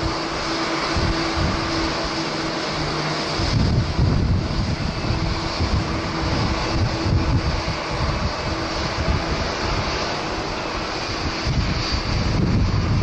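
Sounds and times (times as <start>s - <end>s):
jet engine rushing: 0.0s - 13.0s
wind buffeting microphone: 0.0s - 13.0s.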